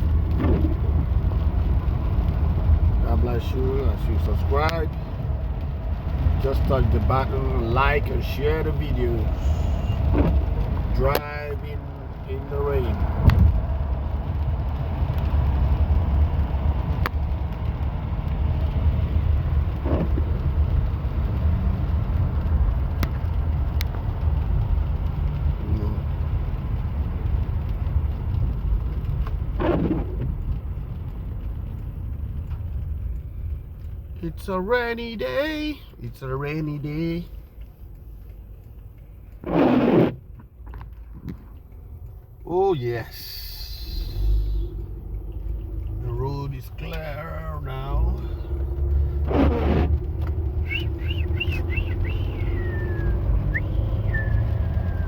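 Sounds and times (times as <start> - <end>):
car cabin rumble in rain: 0.0 - 55.0.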